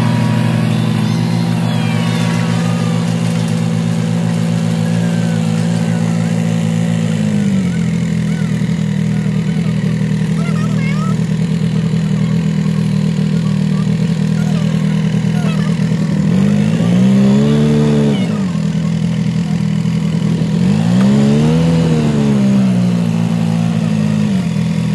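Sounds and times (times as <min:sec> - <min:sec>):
vehicle engine running: 0:00.0 - 0:24.9.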